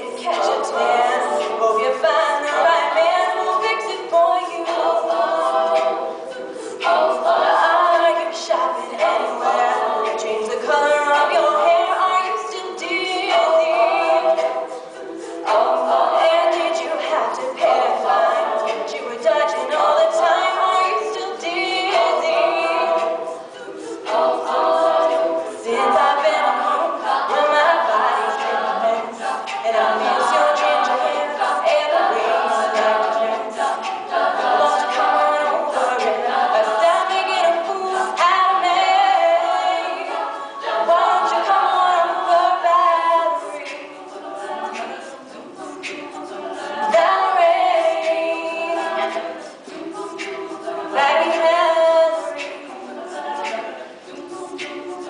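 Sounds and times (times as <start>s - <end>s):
women singing in harmony: 0.0s - 55.0s.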